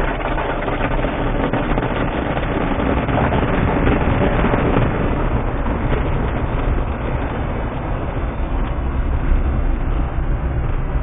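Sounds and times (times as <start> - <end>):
pickup truck engine rumble: 0.0 - 11.0
road noise: 0.0 - 11.0.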